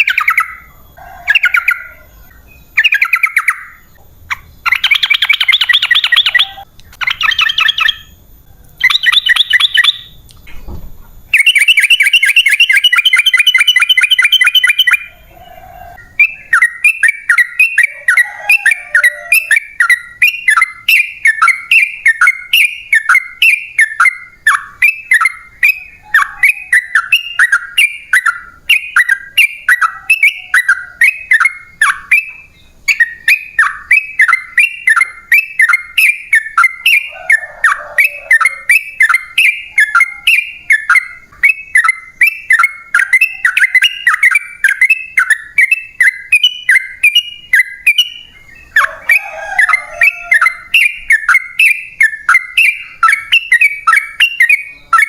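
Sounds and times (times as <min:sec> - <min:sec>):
bird singing chattering trills: 0:00.0 - 0:10.6, 0:11.2 - 0:55.0.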